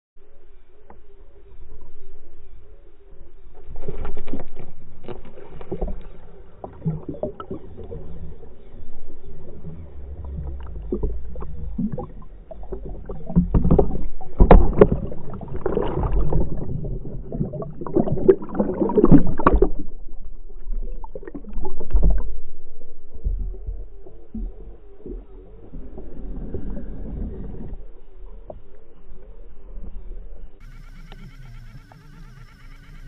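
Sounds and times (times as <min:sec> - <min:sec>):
water churning underwater: 0:00.8 - 0:33.0
underwater knocks and rustles: 0:03.4 - 0:32.0.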